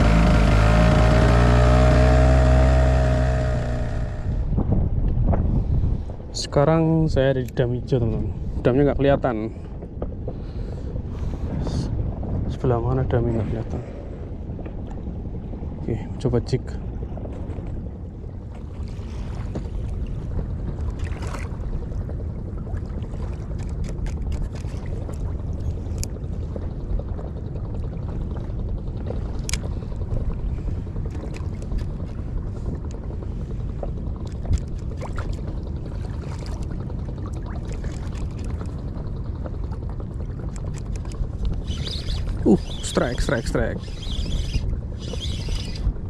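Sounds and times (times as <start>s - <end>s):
water rumbling: 0.0s - 46.0s
wind: 0.0s - 46.0s.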